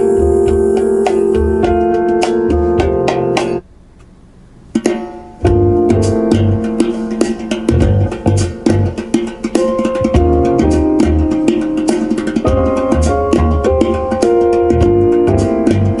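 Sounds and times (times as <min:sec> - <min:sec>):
plucked guitar: 0:00.0 - 0:03.6, 0:04.8 - 0:16.0
pop music from car speakers: 0:00.0 - 0:03.6, 0:04.8 - 0:16.0
pulsing bass line: 0:00.0 - 0:03.6, 0:04.8 - 0:16.0.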